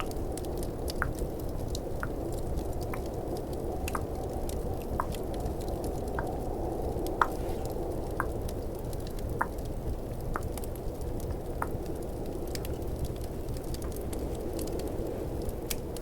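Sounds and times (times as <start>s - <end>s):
fireplace crackling: 0.0s - 16.0s
snowstorm wind: 0.0s - 16.0s.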